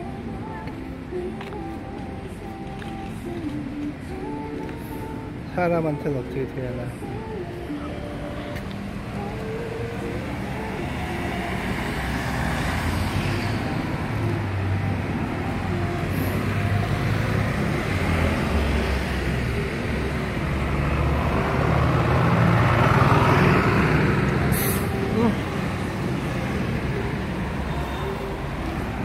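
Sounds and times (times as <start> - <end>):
road traffic rumbling: 0.0 - 29.0.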